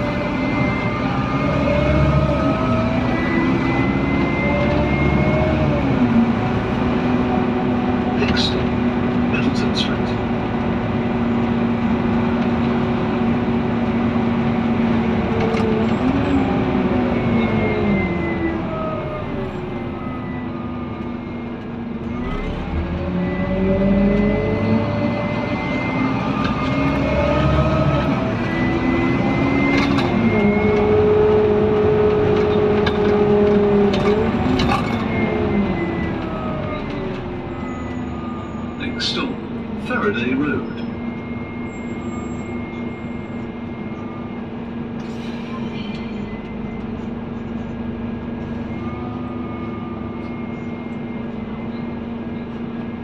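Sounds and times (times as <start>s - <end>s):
bus diesel engine: 0.0s - 53.0s.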